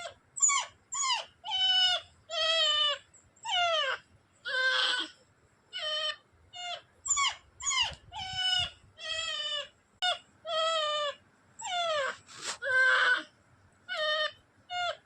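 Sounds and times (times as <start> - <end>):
dog whining and yelping: 0.0 - 15.0.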